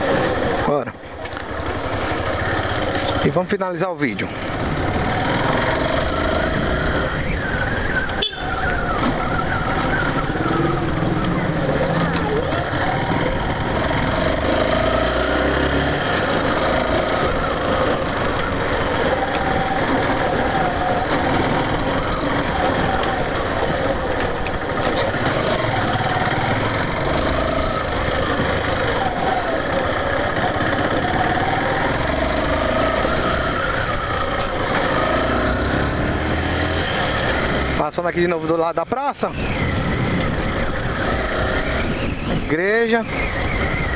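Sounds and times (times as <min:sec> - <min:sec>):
motorcycle engine running: 0:00.0 - 0:38.7.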